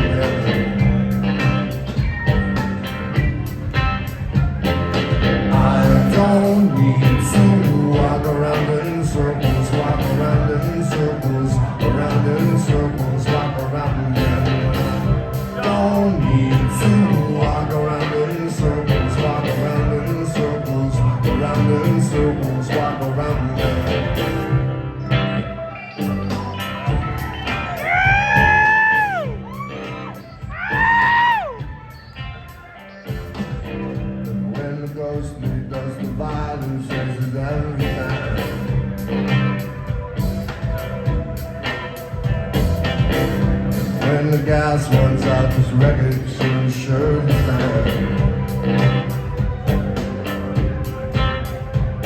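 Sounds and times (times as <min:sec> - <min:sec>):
steady drum beat: 0:00.0 - 0:24.8, 0:26.3 - 0:52.0
bass line: 0:00.0 - 0:52.0
live rock band playing: 0:00.0 - 0:52.0.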